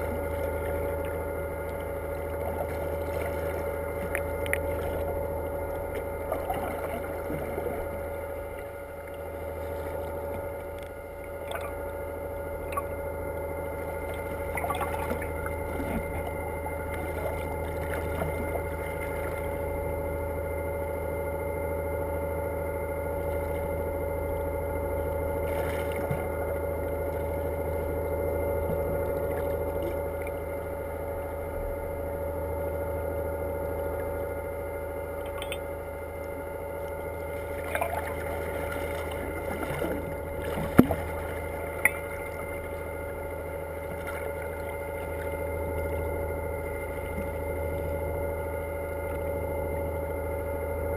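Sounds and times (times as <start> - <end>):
boat engine humming: 0.0 - 50.9.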